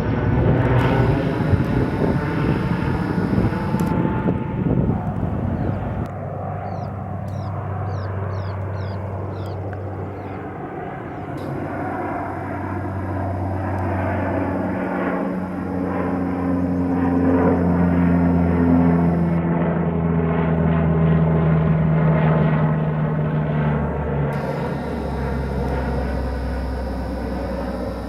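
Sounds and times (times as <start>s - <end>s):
airplane engines droning: 0.0s - 28.0s.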